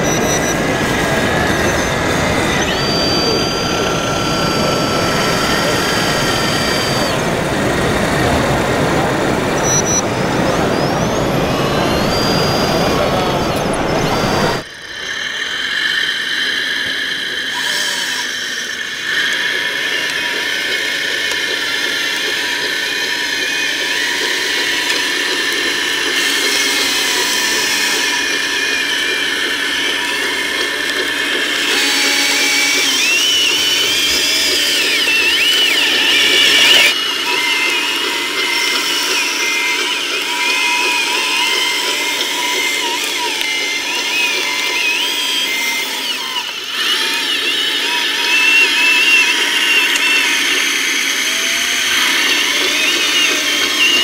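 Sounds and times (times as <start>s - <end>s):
small electric motors whining: 0.0s - 54.0s.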